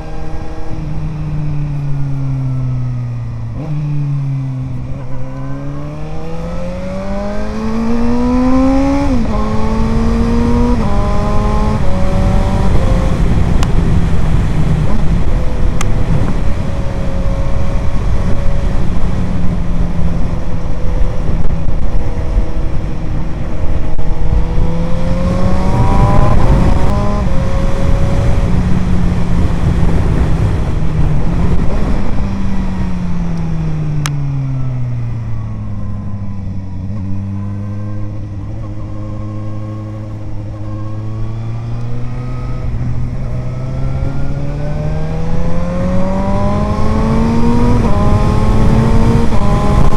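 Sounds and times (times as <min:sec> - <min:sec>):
motorcycle engine: 0:00.0 - 0:49.9
wind noise: 0:00.0 - 0:49.9.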